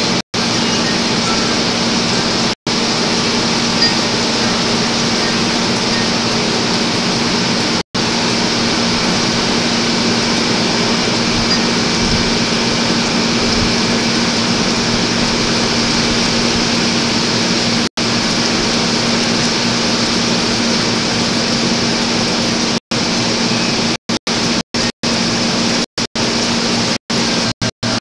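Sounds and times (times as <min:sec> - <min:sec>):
wind and heavy rain hiss: 0:00.4 - 0:23.4.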